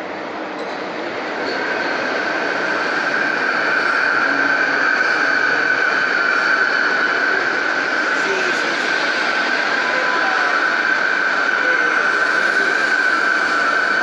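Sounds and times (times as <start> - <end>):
high-pitched train whine: 0.0 - 14.0
passing train rumble: 0.0 - 14.0.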